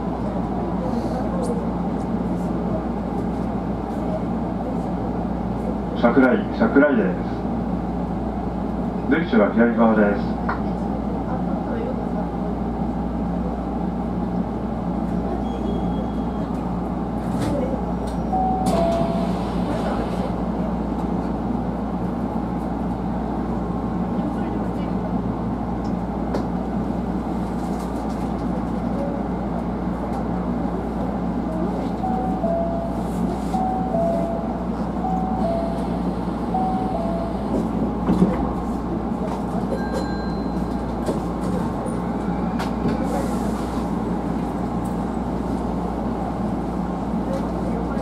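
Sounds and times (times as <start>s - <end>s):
electric train hum and rumble: 0.0s - 48.0s.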